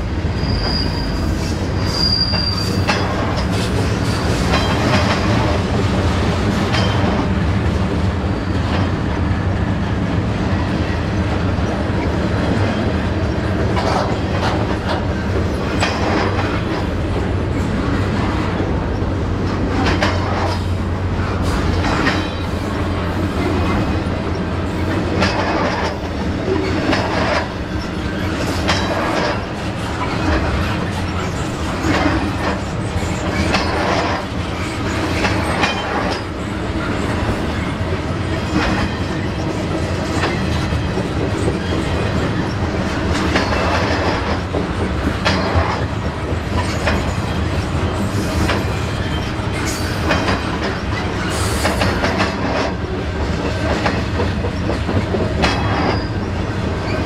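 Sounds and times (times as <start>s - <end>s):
freight train cars rolling past: 0.0s - 57.0s
wheels clacking over rail joints: 1.4s - 7.8s, 10.8s - 57.0s.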